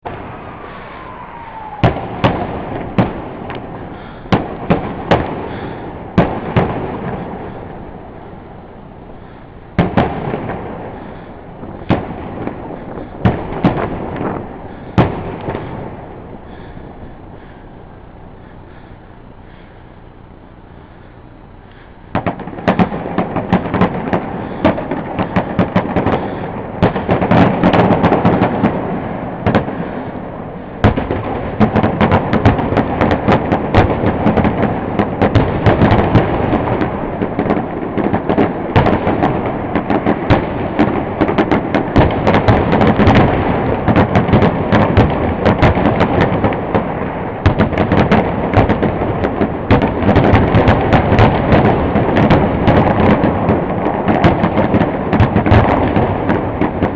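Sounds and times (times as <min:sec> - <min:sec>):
firework shells cracking and booming: 0:00.0 - 0:20.6, 0:21.7 - 0:56.9
continuous rumble: 0:00.0 - 0:56.9.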